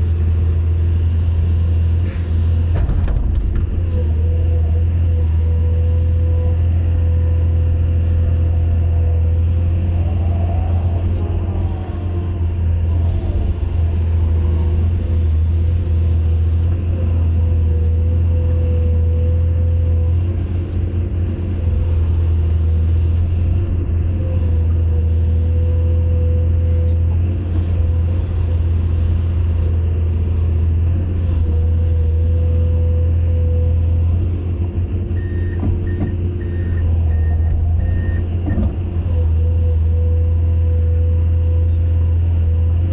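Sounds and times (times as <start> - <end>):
diesel engine running: 0.0 - 42.9
engine whine: 0.0 - 42.9.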